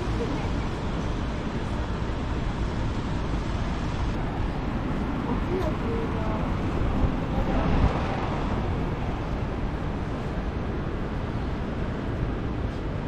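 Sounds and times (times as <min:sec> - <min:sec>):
passing road traffic: 0:00.0 - 0:13.0.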